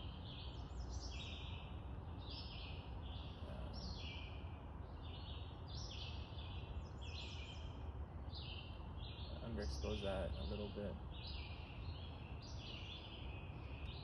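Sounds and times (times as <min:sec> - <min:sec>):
woodland birds singing: 0:00.0 - 0:14.0.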